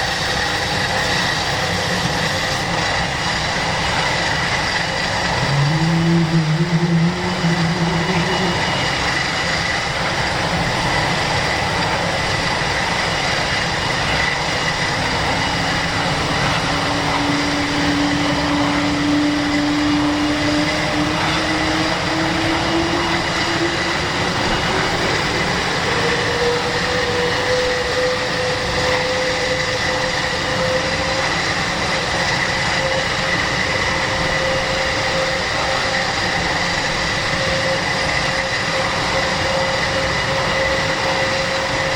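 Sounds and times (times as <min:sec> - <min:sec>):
turboprop engines droning: 0:00.0 - 0:41.9.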